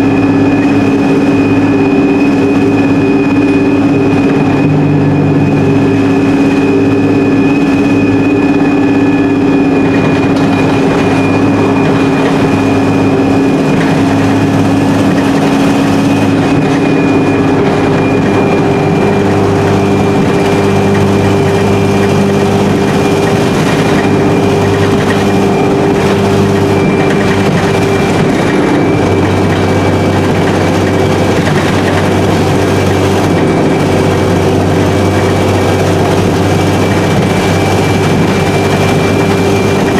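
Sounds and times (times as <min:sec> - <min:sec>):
bus diesel engine drone: 0:00.0 - 0:39.9
gearbox whine: 0:00.0 - 0:39.9.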